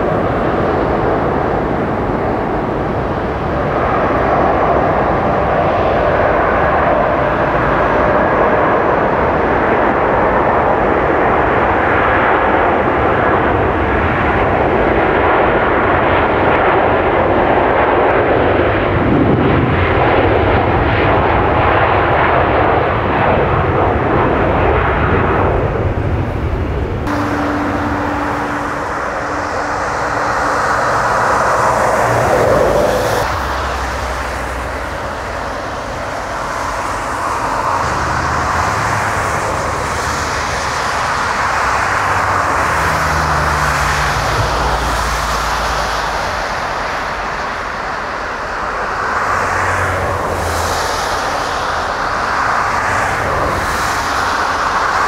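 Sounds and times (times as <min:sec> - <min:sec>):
jet engines roaring: 0:00.0 - 0:55.0
steady engine whine: 0:00.0 - 0:55.0.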